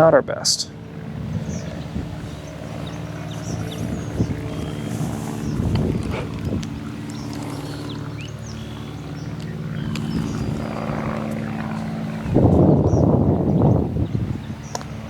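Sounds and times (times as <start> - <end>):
engine drone: 0.0 - 15.0
birds chirping: 0.6 - 15.0
wind on microphone: 1.0 - 15.0.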